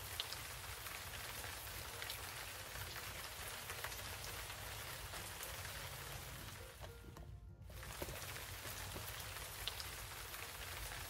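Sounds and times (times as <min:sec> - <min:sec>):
louder raindrops: 0:00.0 - 0:06.9, 0:07.6 - 0:11.0
steady rain: 0:00.0 - 0:06.9, 0:07.6 - 0:11.0.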